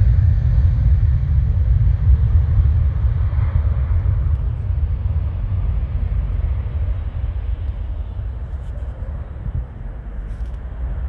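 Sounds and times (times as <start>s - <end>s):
distant jet engine rumble: 0.0s - 11.0s
wind buffeting microphone: 0.0s - 11.0s.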